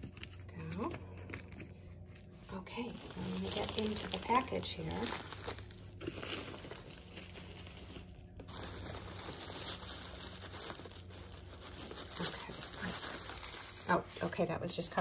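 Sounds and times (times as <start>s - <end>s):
package wrapping rustling: 0.0s - 15.0s.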